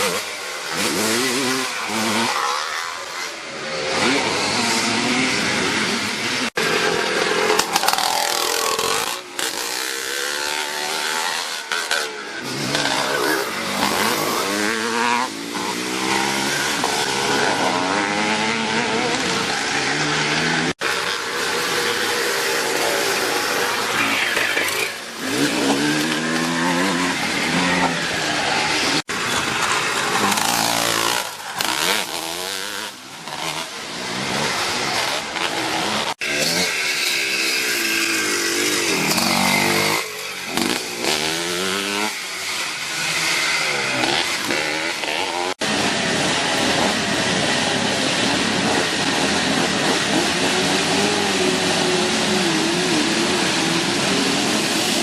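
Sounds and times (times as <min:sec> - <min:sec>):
motocross bikes revving: 0:00.0 - 0:55.0.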